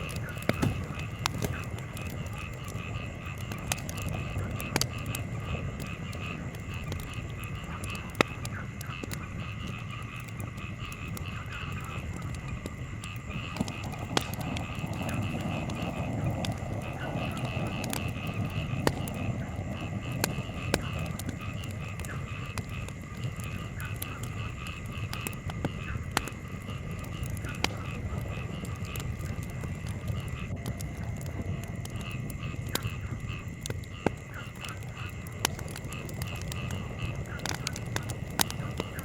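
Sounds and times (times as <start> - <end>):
wood campfire crackling: 0.0 - 39.0.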